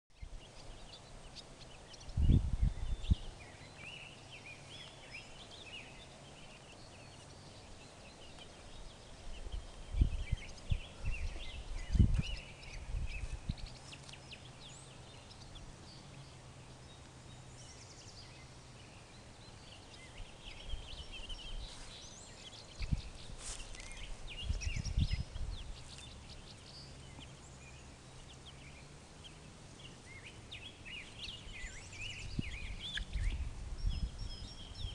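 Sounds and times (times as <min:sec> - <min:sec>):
baby chicks peeping: 0:00.2 - 0:34.9.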